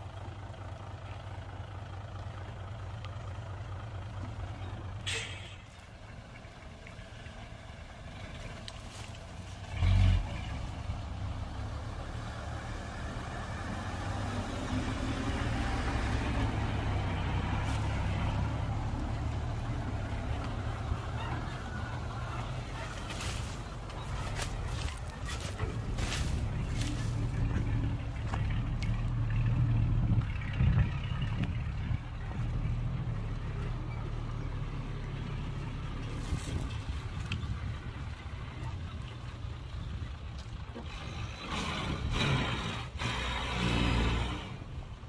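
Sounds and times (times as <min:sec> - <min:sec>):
diesel machinery rumbling: 0:00.0 - 0:45.0.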